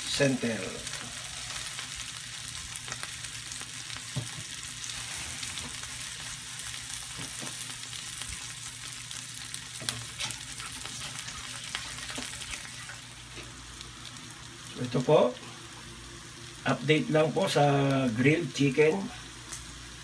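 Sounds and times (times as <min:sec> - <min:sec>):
chicken sizzling in grill pan: 0:00.0 - 0:20.0.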